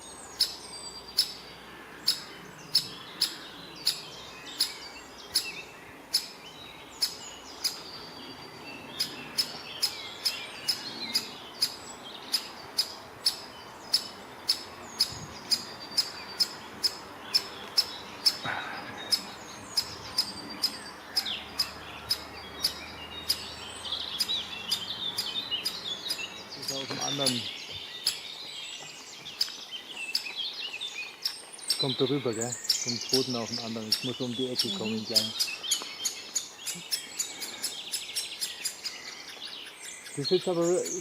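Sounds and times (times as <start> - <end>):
birds singing faintly: 0.0 - 41.0
woodpecker sharp calls: 0.0 - 41.0.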